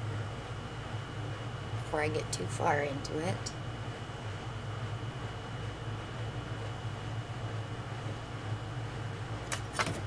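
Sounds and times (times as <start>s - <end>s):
machine hum and hiss: 0.0s - 10.0s.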